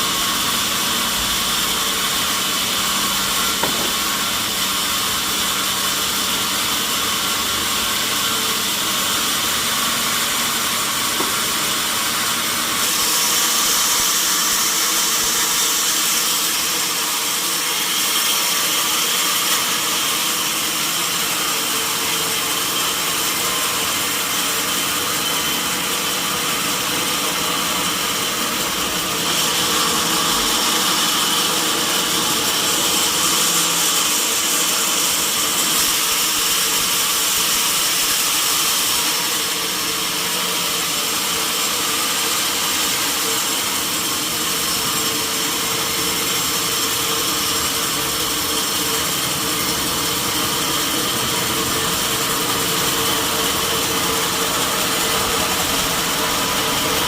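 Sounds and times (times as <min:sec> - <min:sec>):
sawmill saw cutting log: 0:00.0 - 0:57.0.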